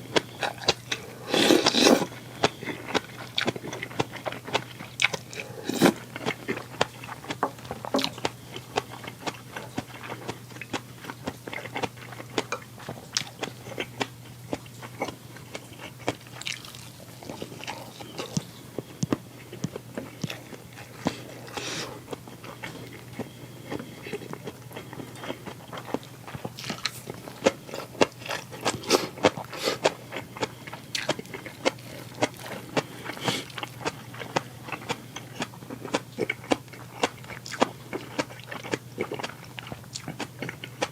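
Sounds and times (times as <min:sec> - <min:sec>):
low steady hum: 0:00.0 - 0:40.9
person chewing crunchy food: 0:00.0 - 0:40.9.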